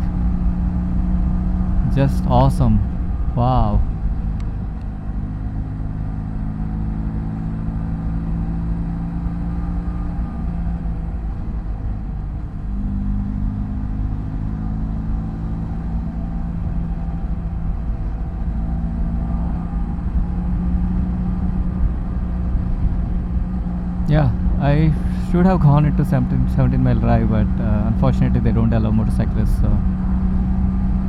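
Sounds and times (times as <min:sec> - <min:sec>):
road and wind rumble: 0:00.0 - 0:31.0.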